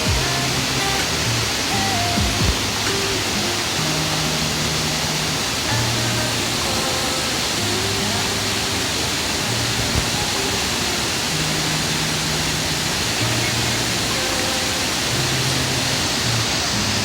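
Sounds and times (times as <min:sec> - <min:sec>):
mountain stream rushing: 0:00.0 - 0:17.0
soft background music: 0:00.0 - 0:17.0.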